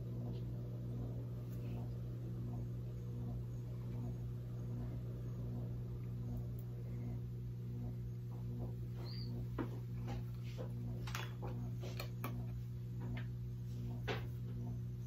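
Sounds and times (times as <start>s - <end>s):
low throbbing hum: 0.0s - 15.0s.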